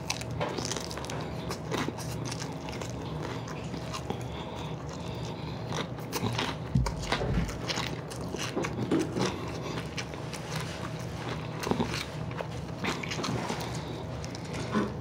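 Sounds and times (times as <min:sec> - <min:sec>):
chewing fried chicken: 0:00.0 - 0:15.0.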